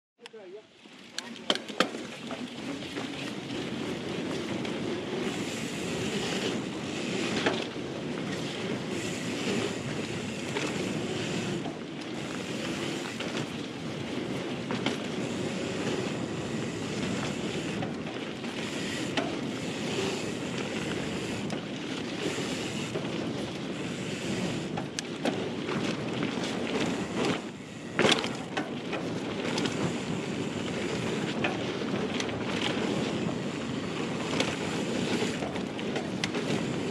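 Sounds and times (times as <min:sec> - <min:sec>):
tyres rolling over dirt: 0:00.8 - 0:36.9
wind rush on camera: 0:01.1 - 0:36.9.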